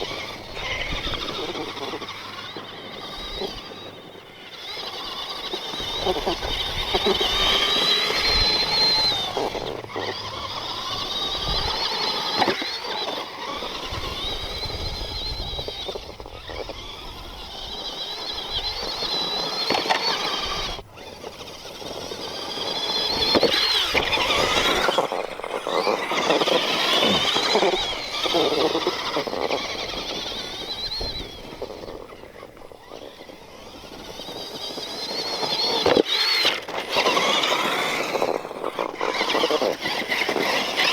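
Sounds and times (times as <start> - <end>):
toy truck motor whine: 0.0 - 40.9
tyre and ground noise: 0.0 - 40.9.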